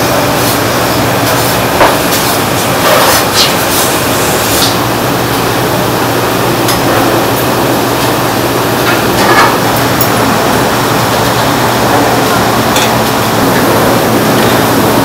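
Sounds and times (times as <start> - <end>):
kitchen ventilation rushing: 0.0 - 15.0.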